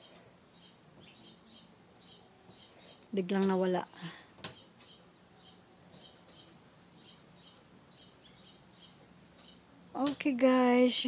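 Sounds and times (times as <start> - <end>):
small bird chirping: 0.0 - 10.2.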